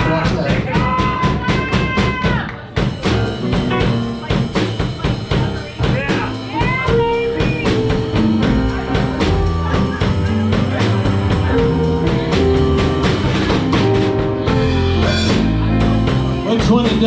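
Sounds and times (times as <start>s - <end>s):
drum kit: 0.0s - 17.0s
live band playing: 0.0s - 17.0s
guitar: 1.4s - 17.0s.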